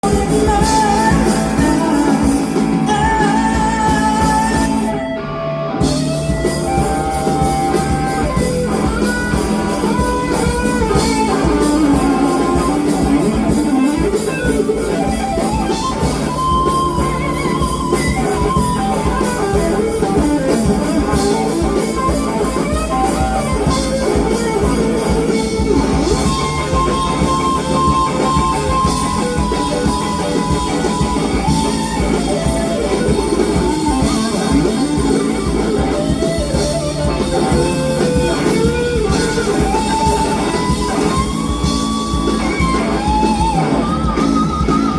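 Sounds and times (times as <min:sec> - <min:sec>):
electric guitar solo: 0:00.0 - 0:44.9
rock band playing: 0:00.0 - 0:44.9.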